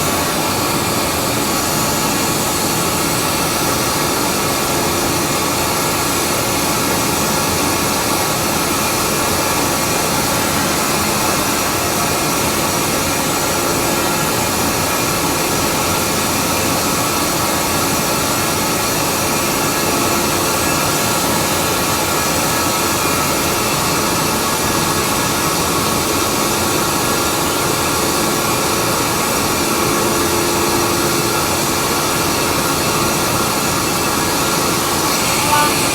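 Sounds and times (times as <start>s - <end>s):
air compressor running with whine: 0.0s - 35.9s.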